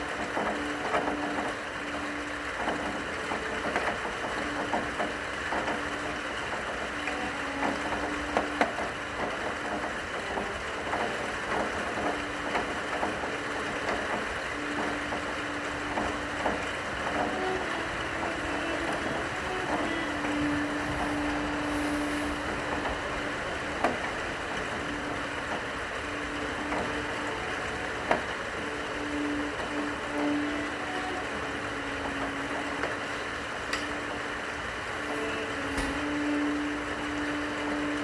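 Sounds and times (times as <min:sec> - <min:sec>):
steady rain: 0:00.0 - 0:38.0
low cello note: 0:06.9 - 0:34.3, 0:34.9 - 0:38.0.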